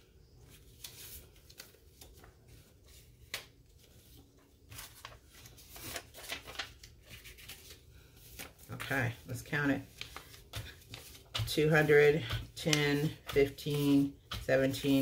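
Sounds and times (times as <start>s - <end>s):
banknotes rustling: 0.4s - 15.0s.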